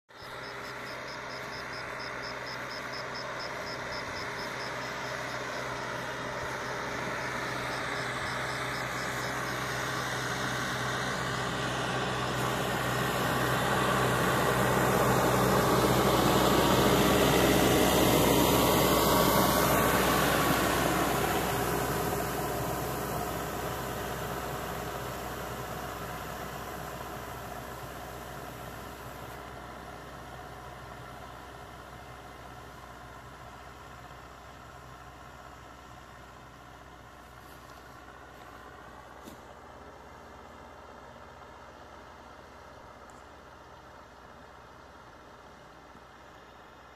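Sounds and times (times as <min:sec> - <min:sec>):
tractor diesel engine passing: 0:00.1 - 0:46.9.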